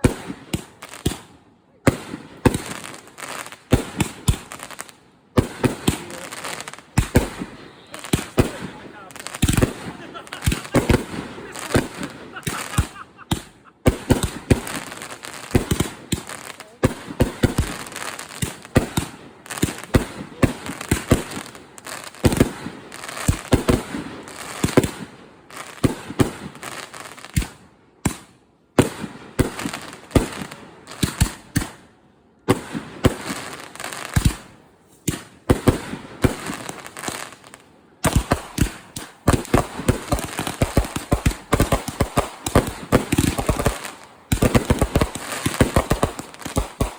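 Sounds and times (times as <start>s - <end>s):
firework bangs and crackles: 0.0s - 46.9s.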